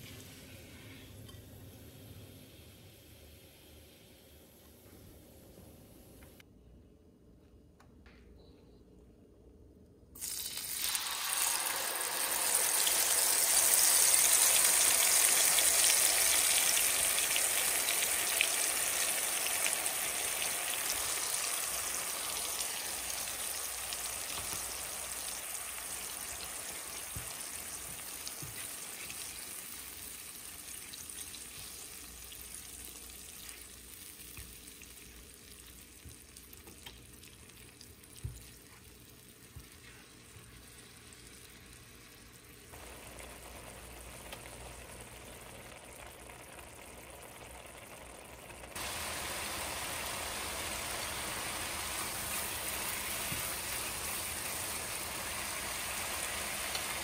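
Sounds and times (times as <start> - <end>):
yogurt sizzling in frying pan: 10.2 - 57.0.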